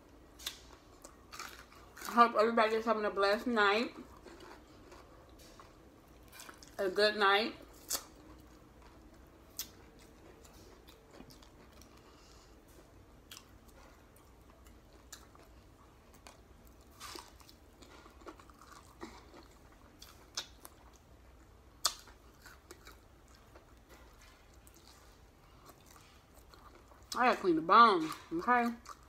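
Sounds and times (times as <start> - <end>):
chewing and crunching: 0.3 - 29.0.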